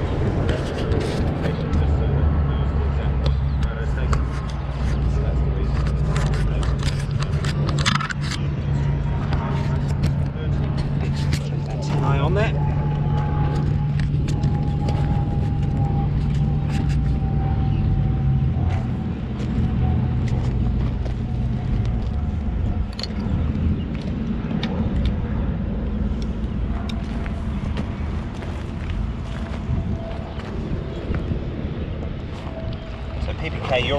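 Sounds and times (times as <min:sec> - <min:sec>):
engine humming with whine: 0:00.0 - 0:33.9.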